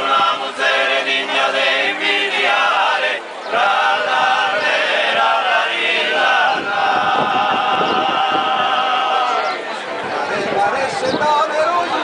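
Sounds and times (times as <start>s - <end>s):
male choir singing in harmony: 0.0s - 10.6s.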